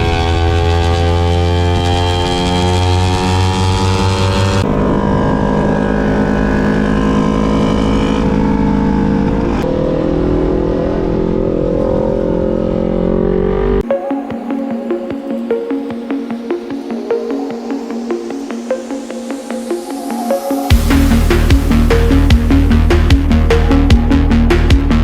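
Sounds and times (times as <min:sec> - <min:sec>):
motorcycle engine accelerating: 0:00.0 - 0:13.9, 0:16.3 - 0:25.0.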